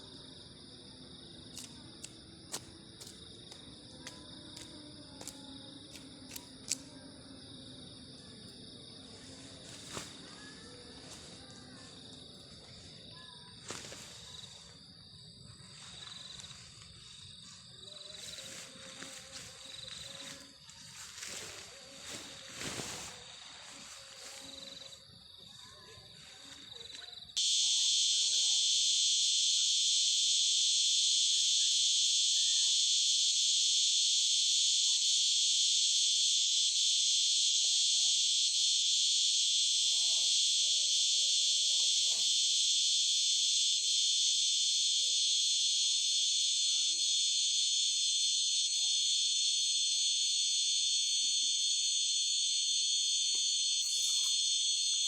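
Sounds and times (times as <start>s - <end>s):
shrill insects droning: 0.0s - 55.0s.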